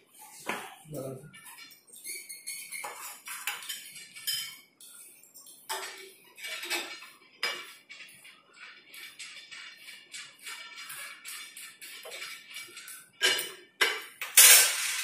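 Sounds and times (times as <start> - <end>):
kitchenware and dishes clattering: 0.1 - 15.0.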